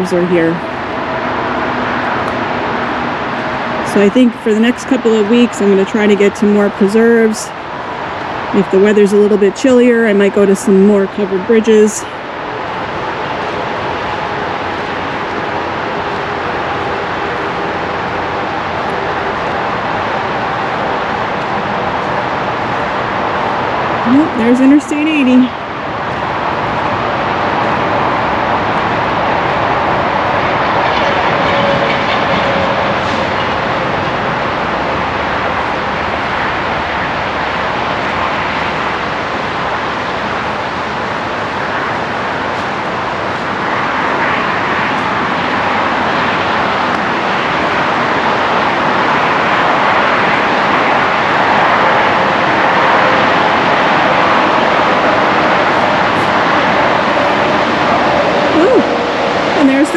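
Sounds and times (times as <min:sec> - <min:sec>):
heavy vehicles passing: 0:00.0 - 0:59.9
highway traffic rushing: 0:00.0 - 0:59.9.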